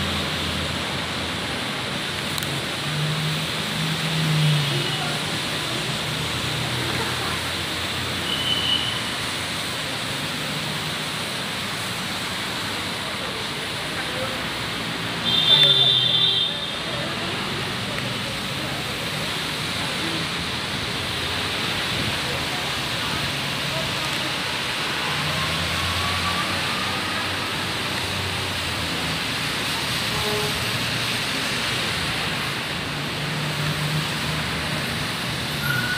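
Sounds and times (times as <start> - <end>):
bus and car engines humming: 0.0 - 35.9
rain hiss: 0.0 - 35.9
tyres on wet road: 0.0 - 35.9.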